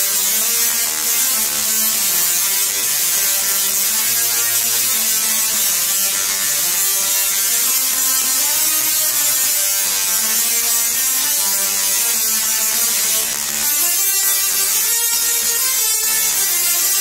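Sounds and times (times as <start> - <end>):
tesla coil rasping buzz: 0.0 - 17.0.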